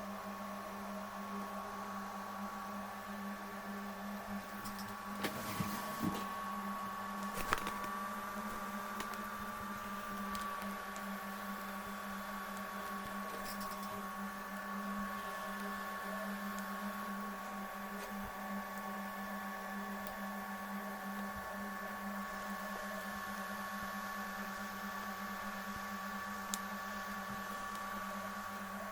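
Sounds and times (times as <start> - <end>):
constant low hum: 0.0 - 28.9.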